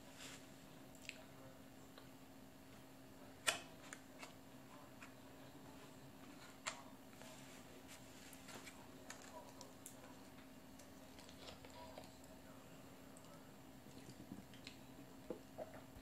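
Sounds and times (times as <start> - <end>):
quiet eating sounds: 0.0 - 16.0
steady low hum: 0.0 - 16.0.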